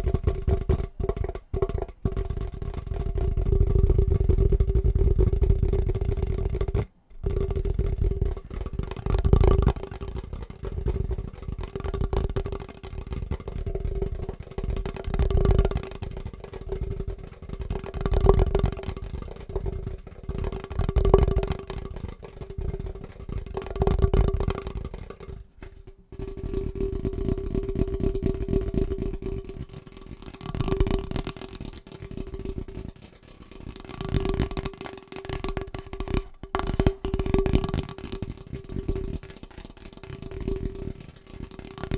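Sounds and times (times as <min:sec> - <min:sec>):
rapid finger tapping: 0:00.0 - 0:41.9.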